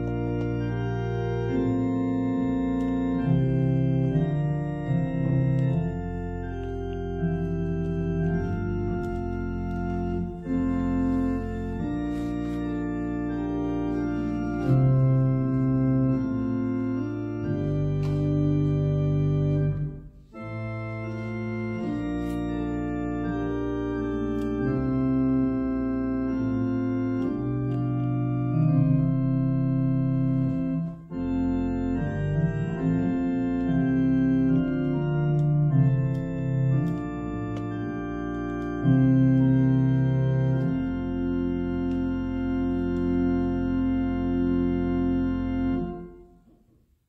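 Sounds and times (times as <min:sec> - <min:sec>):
church organ chords: 0:00.0 - 0:46.8.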